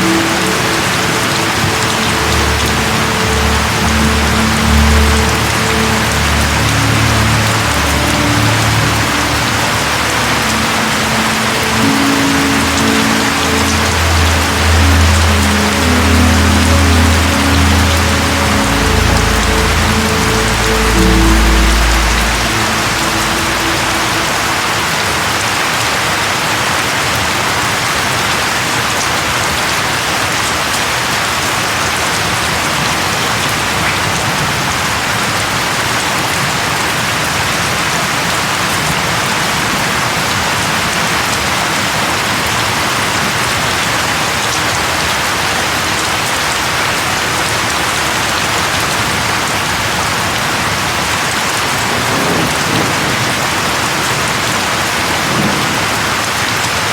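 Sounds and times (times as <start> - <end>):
heavy rainfall: 0.0 - 56.9.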